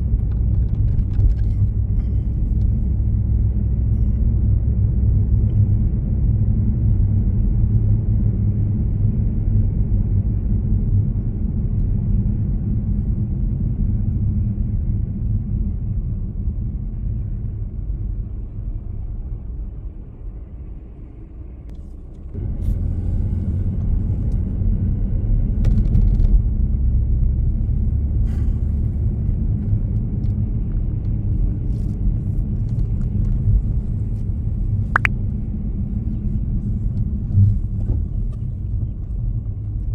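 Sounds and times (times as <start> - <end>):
vehicle road rumble: 0.0 - 39.9.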